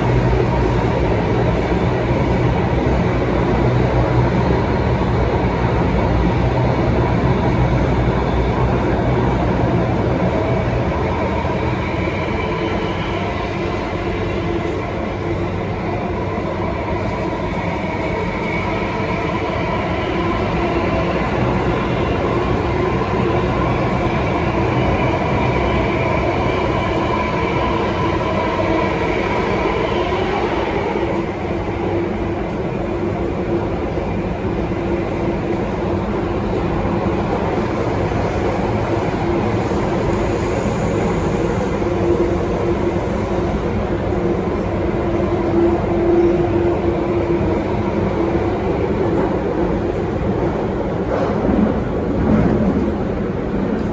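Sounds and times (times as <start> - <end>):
metro train rumble: 0.0 - 53.9.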